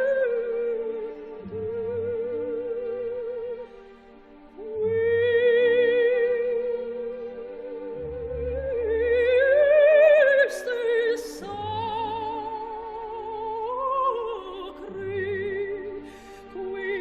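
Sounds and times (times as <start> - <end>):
operatic singing: 0.0 - 17.0.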